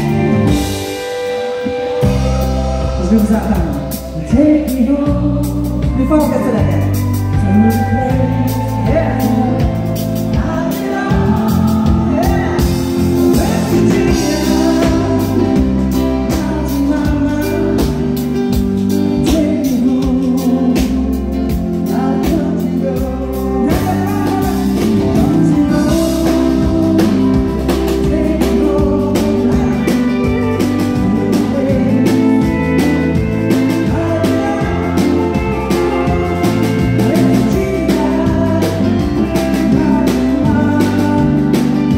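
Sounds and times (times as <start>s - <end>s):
live country band with singer: 0.0s - 41.9s.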